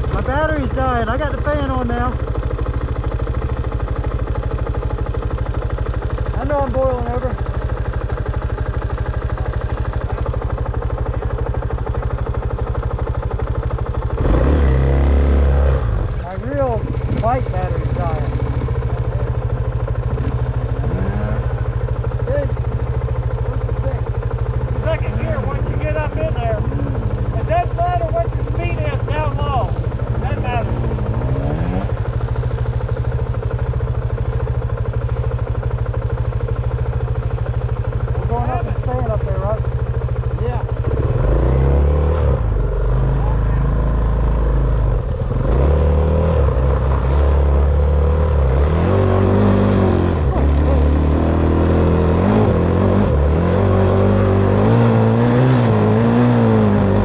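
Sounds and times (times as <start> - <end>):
dirt bike engine idling: 0.0 - 57.0.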